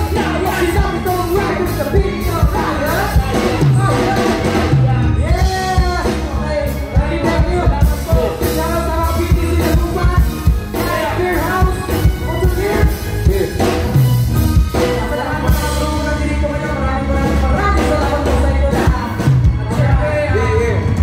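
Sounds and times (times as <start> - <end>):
drum kit: 0.0 - 21.0
electric guitars: 0.0 - 21.0
vocals into microphones: 0.0 - 21.0.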